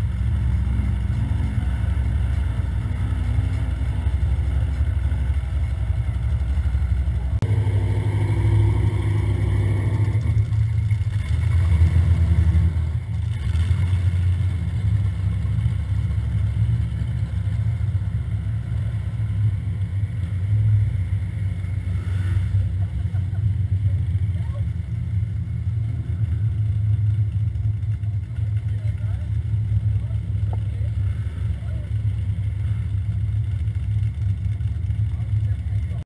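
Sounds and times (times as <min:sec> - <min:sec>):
low engine hum: 0:00.0 - 0:36.0
off-road vehicle engines: 0:00.0 - 0:36.0.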